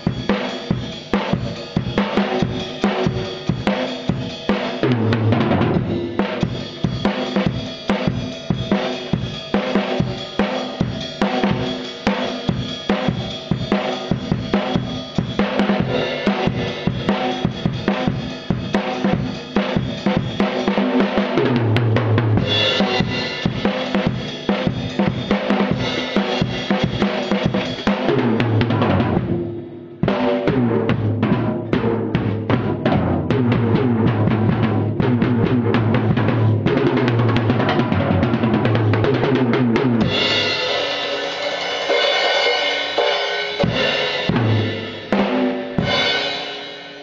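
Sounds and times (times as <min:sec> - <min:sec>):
drum kit solo: 0:00.0 - 0:47.0.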